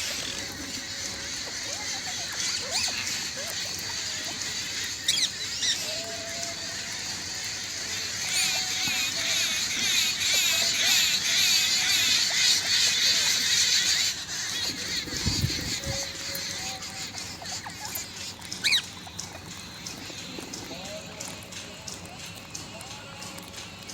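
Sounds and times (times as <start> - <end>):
parrots chattering: 0.0 - 23.9.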